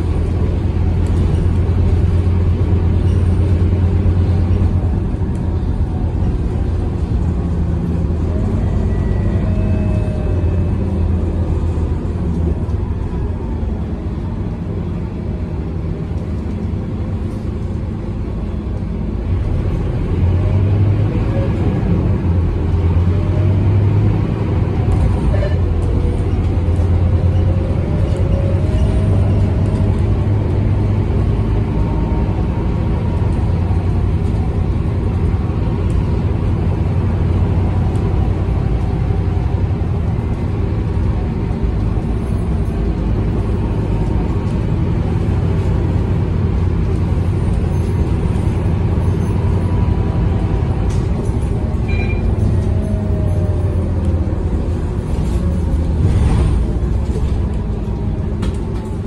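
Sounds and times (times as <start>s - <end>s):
diesel bus engine drone: 0.0s - 59.0s.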